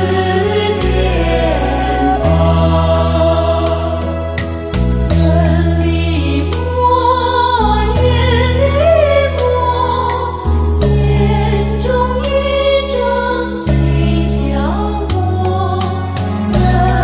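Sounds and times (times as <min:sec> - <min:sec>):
person singing a hymn: 0:00.0 - 0:17.0
sustained low accompaniment: 0:00.0 - 0:17.0.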